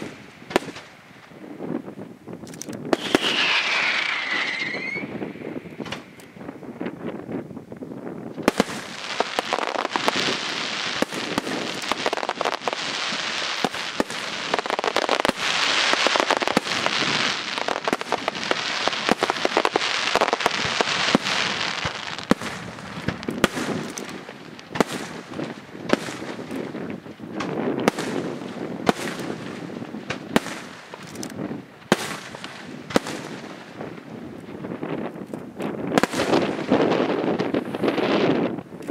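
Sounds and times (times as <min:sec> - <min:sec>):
fireworks bursting: 0:00.0 - 0:07.4, 0:08.1 - 0:38.9.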